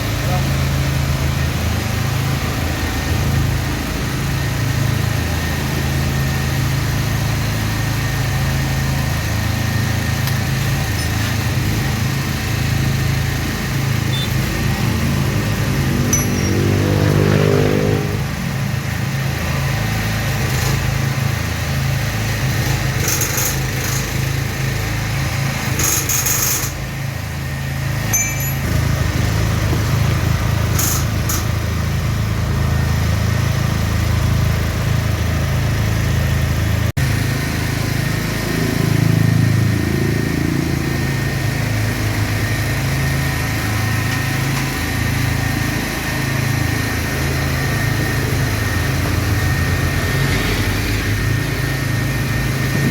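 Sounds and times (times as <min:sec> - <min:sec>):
small engine running under load: 0:00.0 - 0:52.9.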